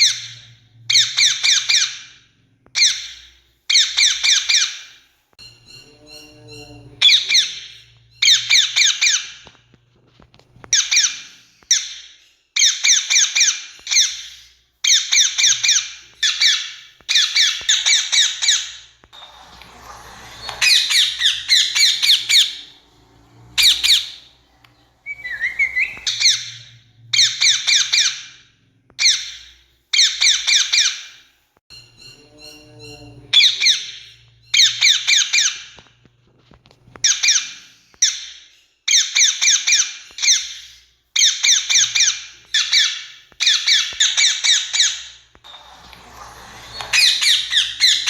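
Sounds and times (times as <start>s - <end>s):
parakeet squawking: 0.0s - 2.2s, 2.8s - 4.9s, 5.6s - 9.5s, 10.7s - 28.4s, 29.0s - 31.1s, 32.0s - 35.8s, 41.2s - 48.0s.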